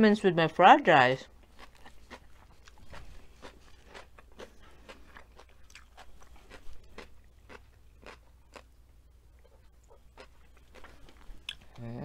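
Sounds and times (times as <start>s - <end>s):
chewing crunchy food: 1.4s - 11.8s.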